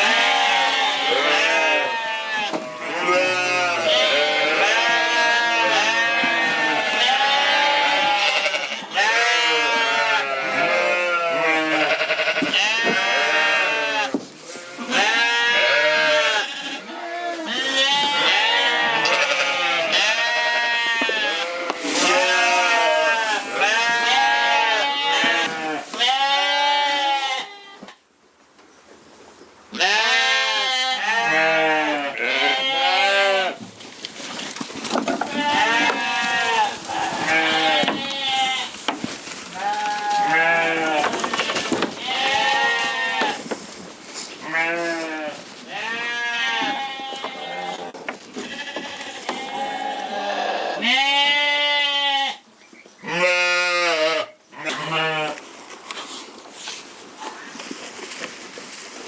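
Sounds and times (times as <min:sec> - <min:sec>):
sheep bleating: 0:00.0 - 0:27.8, 0:29.8 - 0:33.6, 0:35.2 - 0:38.8, 0:39.5 - 0:43.4, 0:44.4 - 0:52.4, 0:53.1 - 0:55.4.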